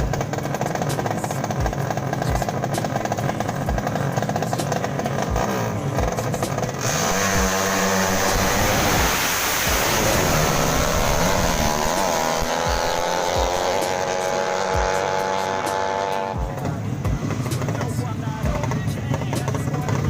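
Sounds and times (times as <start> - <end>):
motorcycle engines revving hard: 0.0 - 20.0
thumping music beat: 0.0 - 20.0.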